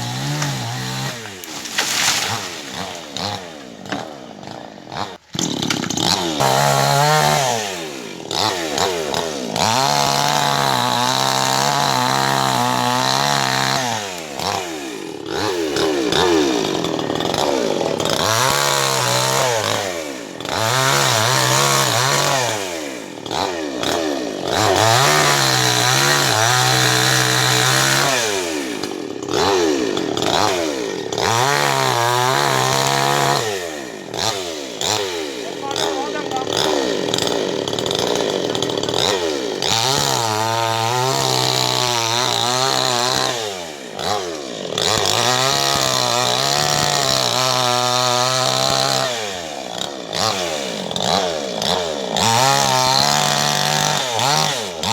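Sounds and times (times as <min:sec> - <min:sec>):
chainsaw cutting tree: 0:00.0 - 0:54.9.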